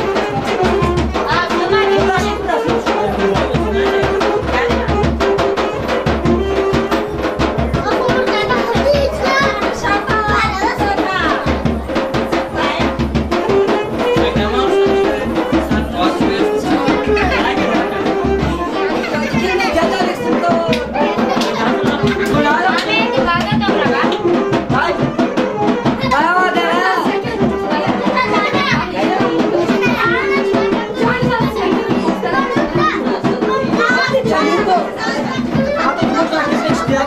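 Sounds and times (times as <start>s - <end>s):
folk dance music: 0.0s - 37.0s.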